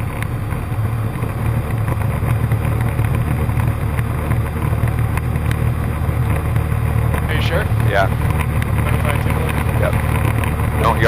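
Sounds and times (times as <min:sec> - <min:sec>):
airplane engine and propeller droning: 0:00.0 - 0:11.0.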